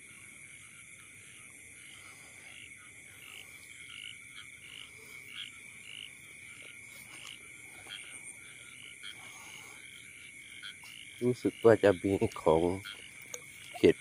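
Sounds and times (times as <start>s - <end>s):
frogs croaking: 0.0s - 14.0s.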